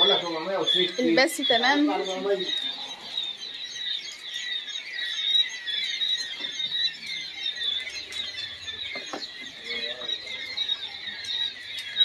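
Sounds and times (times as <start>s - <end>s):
young quail chirping: 0.0s - 12.0s.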